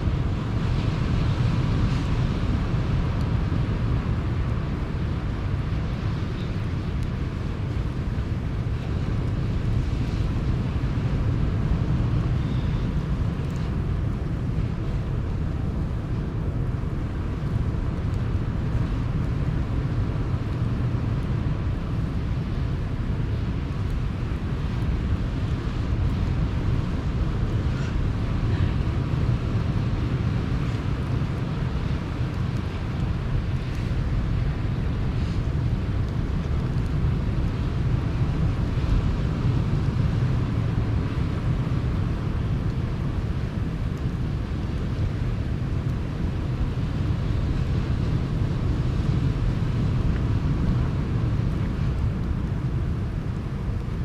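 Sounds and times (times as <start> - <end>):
campfire crackles: 0.0 - 54.0
sea surf rumble: 0.0 - 54.0.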